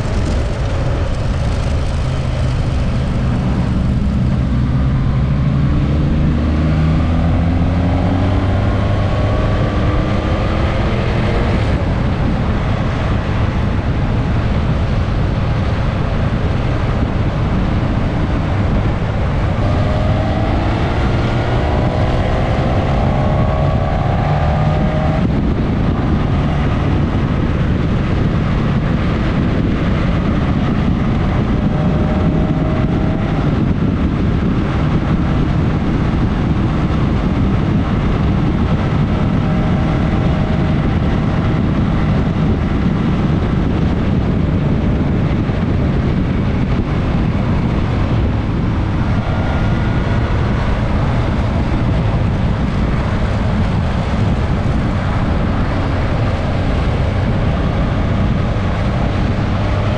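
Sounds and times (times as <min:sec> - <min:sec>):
motorcycle engine cruising: 0:00.0 - 0:59.9
wind rush over microphone: 0:00.0 - 0:59.9.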